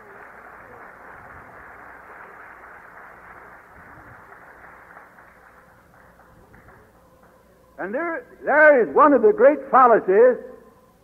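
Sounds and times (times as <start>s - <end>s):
tape hiss: 0.0s - 11.0s.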